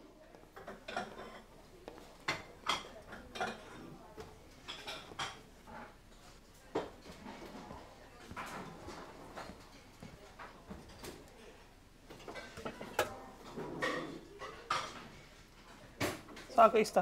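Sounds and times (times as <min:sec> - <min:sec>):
dishes and cutlery clinking: 0:00.4 - 0:16.6.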